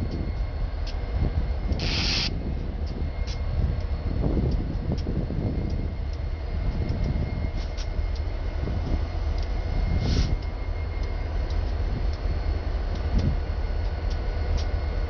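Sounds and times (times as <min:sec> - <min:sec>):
faint whine: 0:00.0 - 0:15.0
freight locomotives rumbling past: 0:00.0 - 0:15.0.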